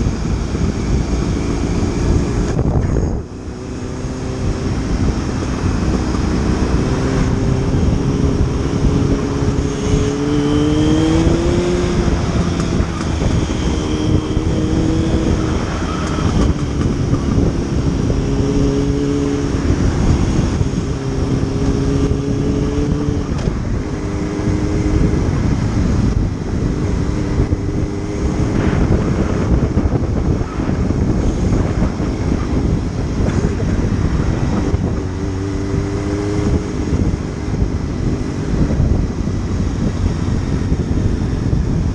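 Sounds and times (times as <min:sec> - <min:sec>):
motorcycle engine running: 0:00.0 - 0:41.9
wind noise on microphone: 0:00.0 - 0:41.9.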